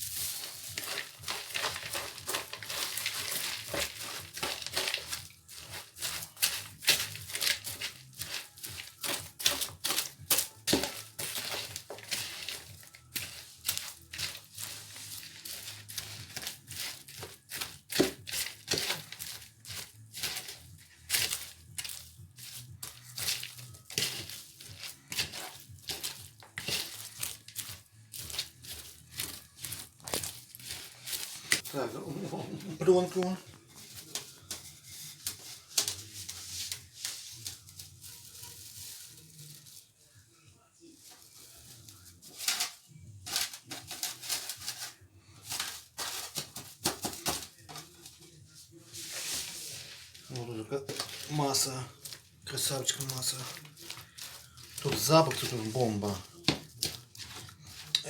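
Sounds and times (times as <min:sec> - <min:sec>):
crisp material crunching: 0:00.0 - 0:40.2, 0:40.9 - 0:58.0
plastic film crinkling: 0:00.0 - 0:58.0.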